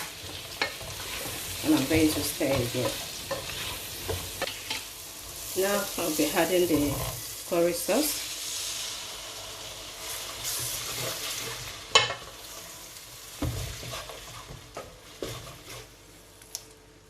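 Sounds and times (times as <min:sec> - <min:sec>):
vegetables sizzling in oil: 0:00.0 - 0:16.4.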